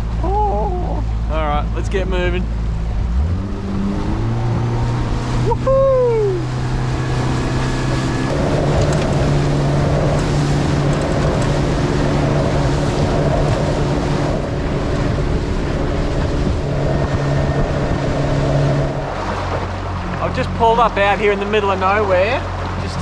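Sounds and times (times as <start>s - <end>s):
motorboat engine running: 0.0s - 23.0s
water rushing past hull: 0.0s - 23.0s
wind buffeting microphone: 0.0s - 23.0s.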